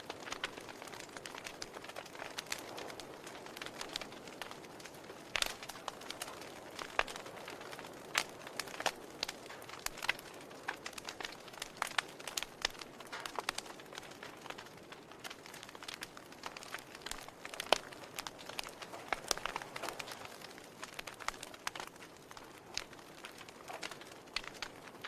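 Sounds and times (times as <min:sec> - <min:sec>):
logs crackling in a fireplace: 0:00.0 - 0:25.0.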